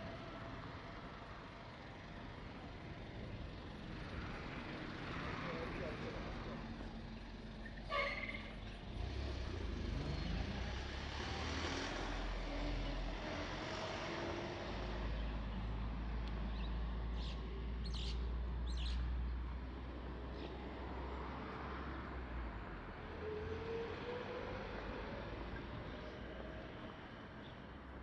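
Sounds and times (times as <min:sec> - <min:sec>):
vehicles passing: 0:00.0 - 0:28.0.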